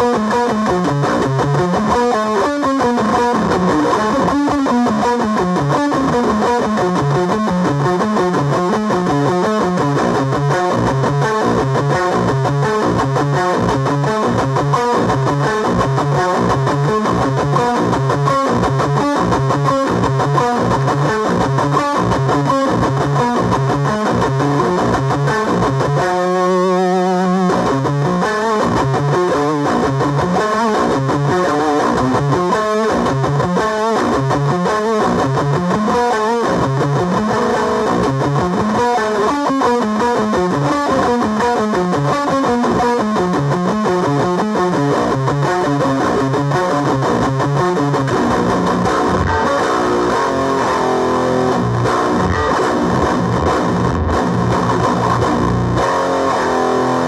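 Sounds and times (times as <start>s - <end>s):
distorted electric guitar riffing: 0.0s - 57.0s.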